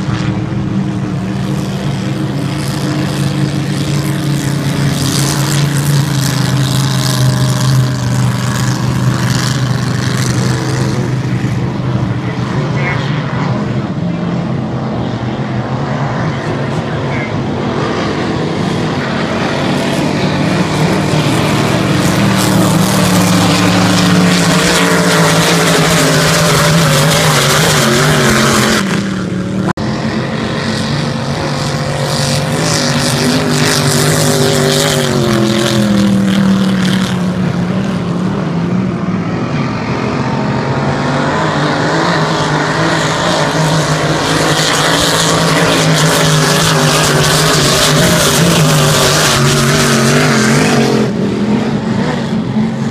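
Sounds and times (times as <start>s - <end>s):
racing boat engines droning: 0.0s - 52.9s.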